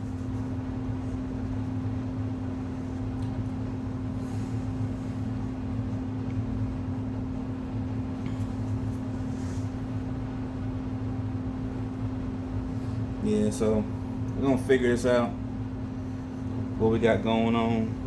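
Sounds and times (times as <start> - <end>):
low hum with held tone: 0.0 - 18.0.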